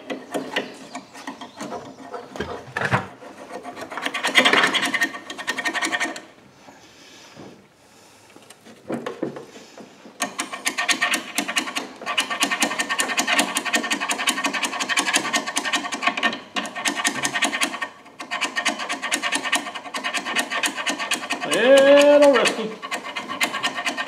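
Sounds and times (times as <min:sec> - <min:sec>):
scraping rust off metal axle: 0:00.0 - 0:06.3, 0:10.2 - 0:24.0.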